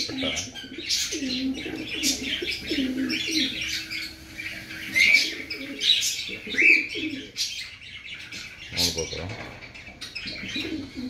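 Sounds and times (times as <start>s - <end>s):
pigeons cooing: 0.0s - 11.0s
high bird chirps: 0.2s - 11.0s.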